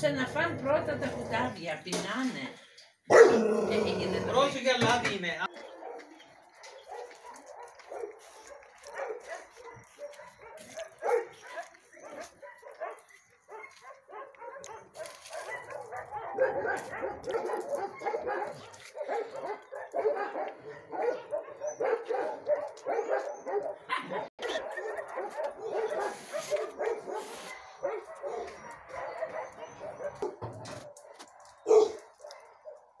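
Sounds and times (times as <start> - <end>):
many dogs barking: 3.1 - 4.5, 5.5 - 33.0.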